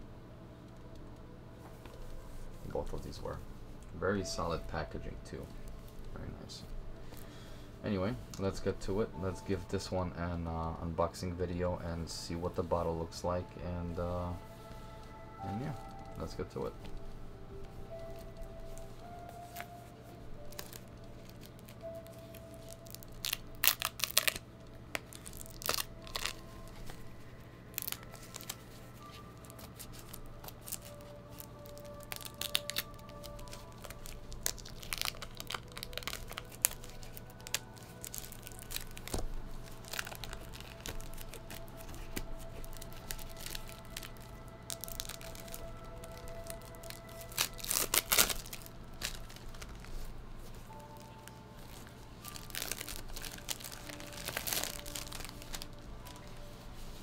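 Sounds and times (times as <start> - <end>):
soft background music: 0.0 - 57.0
plastic wrap crinkling: 1.6 - 57.0.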